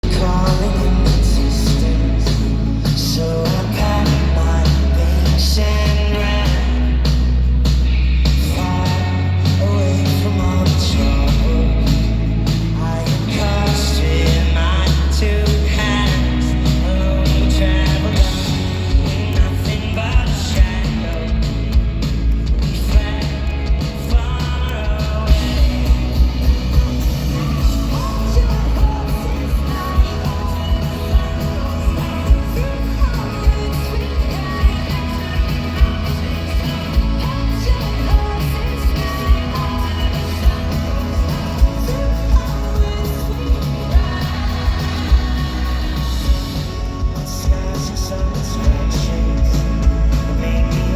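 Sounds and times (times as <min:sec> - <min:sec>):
driving drum beat: 0:00.0 - 0:50.9
live rock band playing: 0:00.0 - 0:50.9
person singing: 0:00.0 - 0:50.9.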